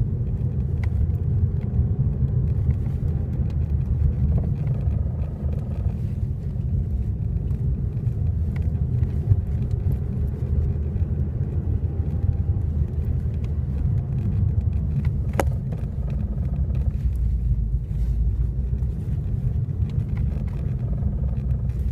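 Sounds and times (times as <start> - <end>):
engine and road rumble: 0.0 - 21.9.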